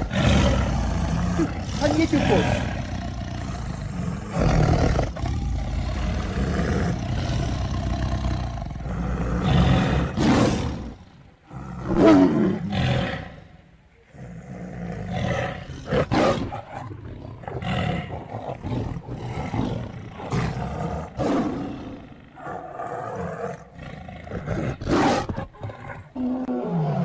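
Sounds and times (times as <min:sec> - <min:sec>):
tigers roaring and growling: 0:00.0 - 0:27.0.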